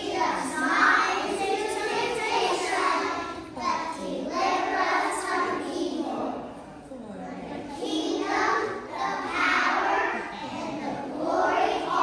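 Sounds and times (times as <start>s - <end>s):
children singing in unison: 0.0s - 6.4s, 7.7s - 12.0s.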